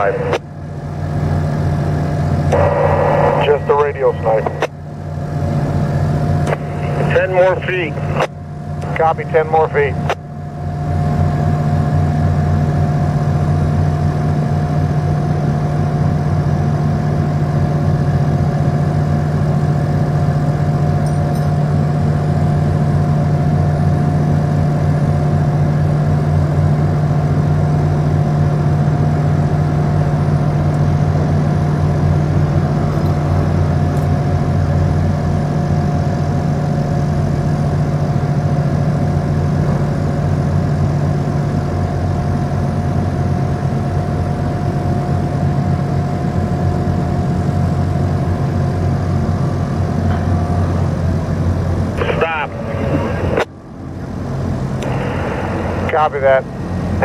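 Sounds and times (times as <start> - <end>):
diesel engines droning: 0.0 - 57.0
steady whine: 0.0 - 57.0.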